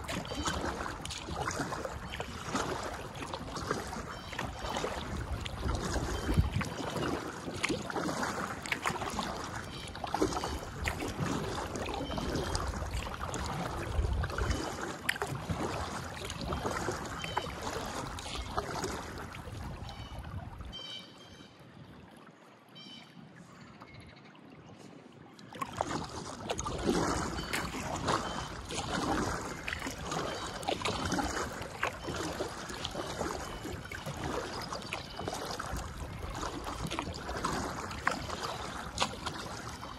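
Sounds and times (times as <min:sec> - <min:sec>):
water dripping off paddle: 0:00.0 - 0:21.0, 0:25.4 - 0:39.9
kayak paddle splashing: 0:00.0 - 0:39.9.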